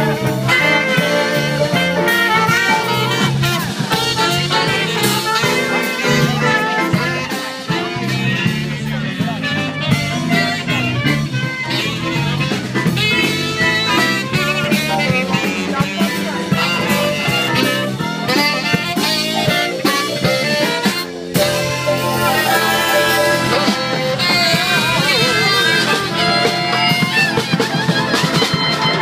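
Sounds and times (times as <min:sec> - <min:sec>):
live jazz band playing: 0:00.0 - 0:29.0.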